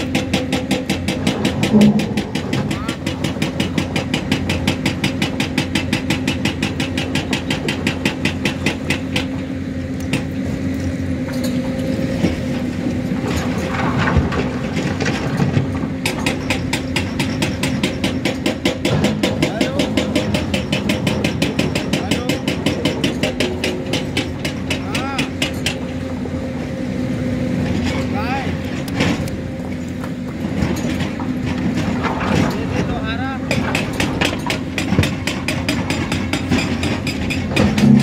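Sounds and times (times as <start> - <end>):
excavator diesel engine hum: 0.0 - 38.0.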